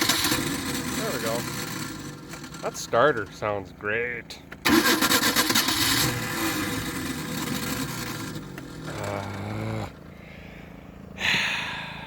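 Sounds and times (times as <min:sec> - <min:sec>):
boat engine running: 0:00.0 - 0:11.2.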